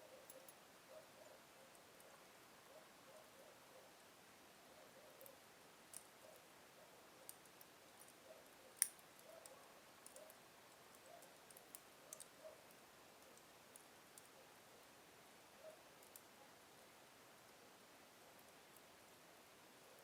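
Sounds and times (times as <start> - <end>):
fire crackling faintly: 0.0 - 20.0.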